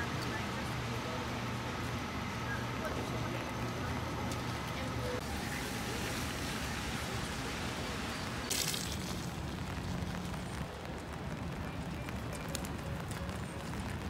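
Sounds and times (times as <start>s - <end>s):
rain: 0.0s - 14.0s
traffic: 0.0s - 14.0s.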